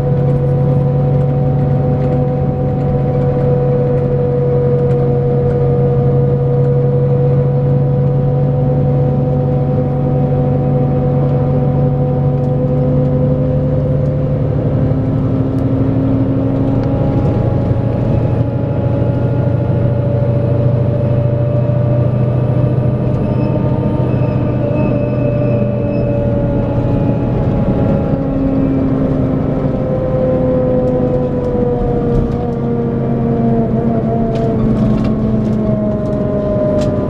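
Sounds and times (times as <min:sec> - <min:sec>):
diesel engine running: 0:00.0 - 0:37.0
road noise: 0:00.0 - 0:37.0.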